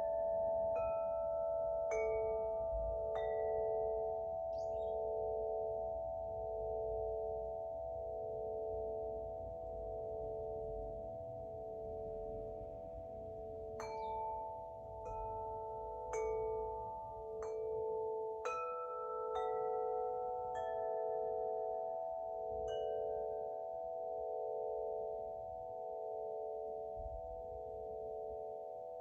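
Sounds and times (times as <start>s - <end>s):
wind chime ringing: 0.0s - 29.0s.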